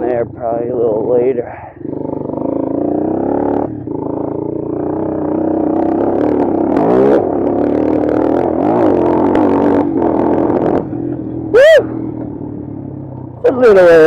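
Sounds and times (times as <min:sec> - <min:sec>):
motorcycle clatter: 0:00.0 - 0:13.7
motorcycle engine under load: 0:00.0 - 0:14.0.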